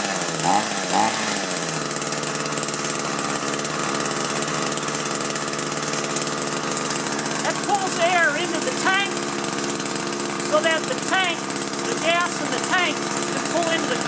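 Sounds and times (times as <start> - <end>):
two-stroke engine revving and idling: 0.0 - 14.0.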